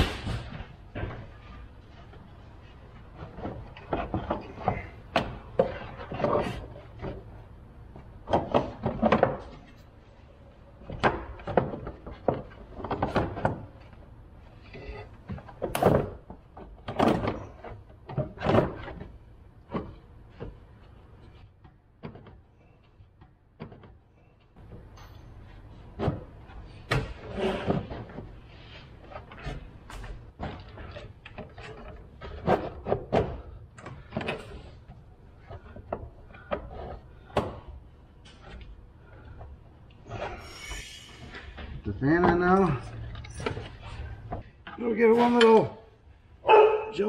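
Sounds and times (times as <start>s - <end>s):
tools and parts knocking and rattling: 0.0s - 40.3s, 41.3s - 46.0s.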